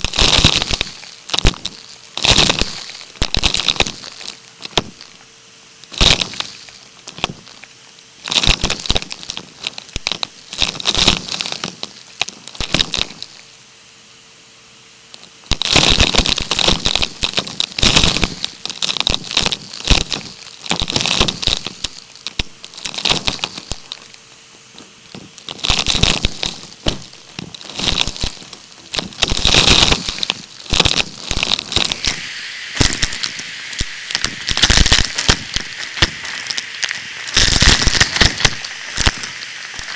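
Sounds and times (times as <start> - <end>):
debris rattling through vacuum tube: 0.0 - 5.2, 5.8 - 13.5, 15.2 - 39.9.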